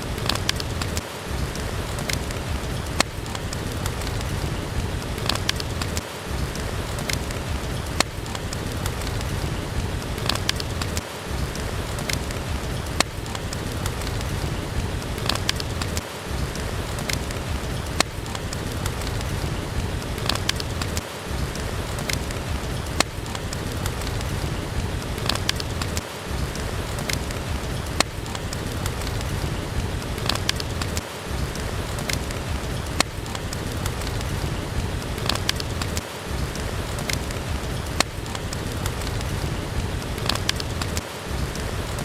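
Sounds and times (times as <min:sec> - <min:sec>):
steady rain: 0:00.0 - 0:42.0
wood fire crackling: 0:00.0 - 0:42.0.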